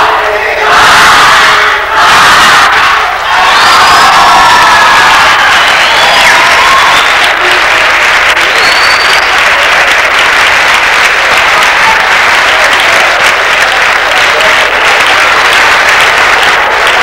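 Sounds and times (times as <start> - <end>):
large crowd applauding: 0.0 - 17.0.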